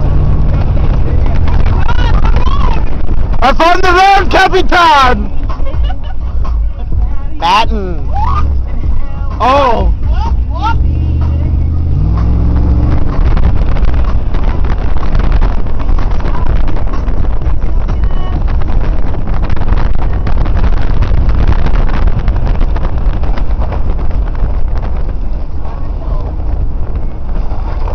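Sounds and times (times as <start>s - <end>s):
car engine revving: 0.0s - 4.7s, 8.1s - 27.9s
wind buffeting microphone: 0.0s - 7.3s, 8.0s - 27.9s.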